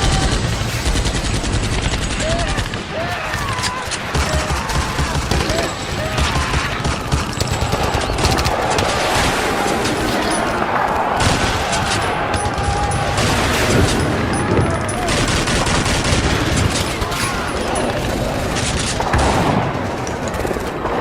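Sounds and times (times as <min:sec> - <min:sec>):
machine-gun bursts: 0:00.0 - 0:20.8
rifle shots: 0:00.0 - 0:21.0.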